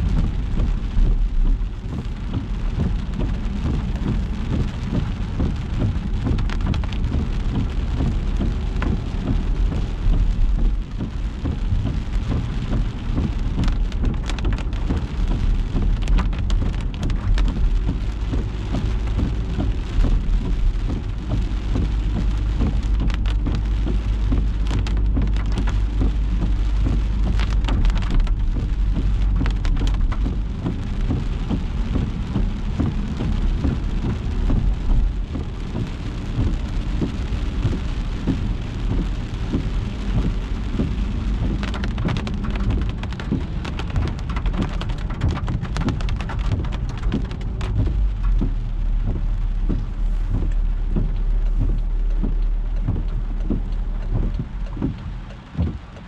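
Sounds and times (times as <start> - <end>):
car and tyres rumbling on wet road: 0.0 - 56.0
rain hitting a car: 0.0 - 56.0.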